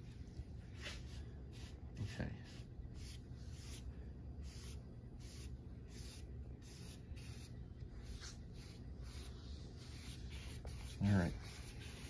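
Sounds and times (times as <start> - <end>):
foam brush swishing on wood: 0.6 - 12.0.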